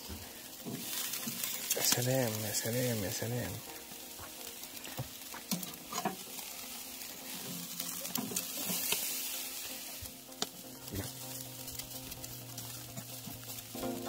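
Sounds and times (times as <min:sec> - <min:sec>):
chicken sizzling on a grill: 0:00.0 - 0:14.0.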